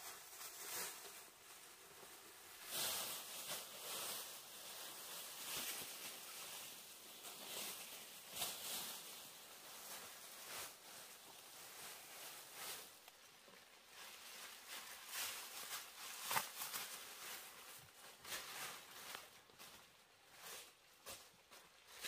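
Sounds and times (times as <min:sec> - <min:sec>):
plastic sheeting rustling: 0:00.0 - 0:22.0.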